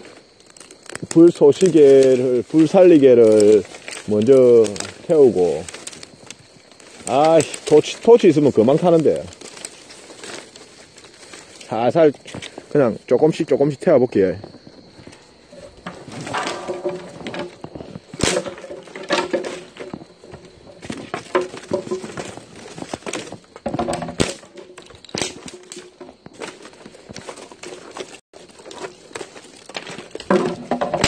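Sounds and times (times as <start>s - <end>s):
dry kindling crackling and snapping: 0.0s - 13.7s, 14.3s - 31.0s.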